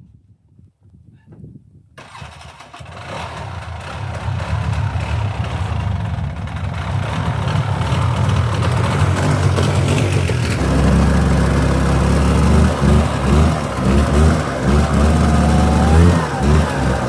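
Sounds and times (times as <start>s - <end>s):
two-stroke engine running: 2.0s - 17.0s.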